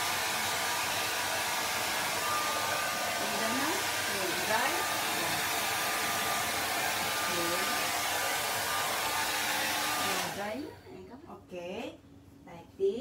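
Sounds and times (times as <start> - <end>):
hair dryer blowing: 0.0 - 10.6.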